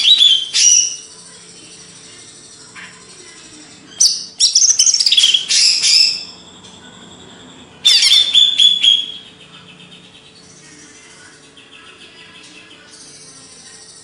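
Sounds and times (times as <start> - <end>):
bird singing high sweeping notes: 0.0 - 14.0.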